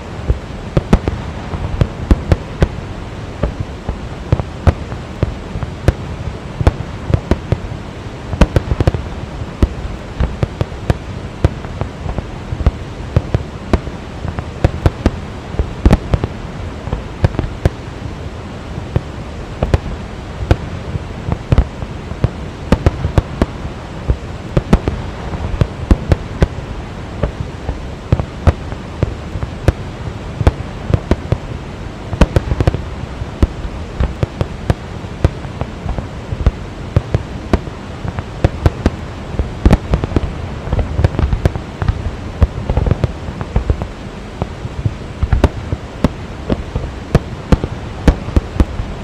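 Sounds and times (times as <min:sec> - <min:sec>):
fireworks bangs and cracks: 0:00.0 - 0:17.9, 0:18.8 - 0:49.0
waterfall rushing: 0:00.0 - 0:49.0.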